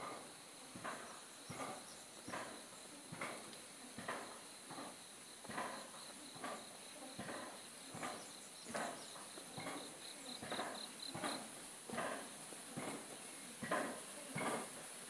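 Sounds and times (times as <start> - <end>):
crickets chirping: 0.0 - 15.0
high insect hiss: 0.0 - 15.0.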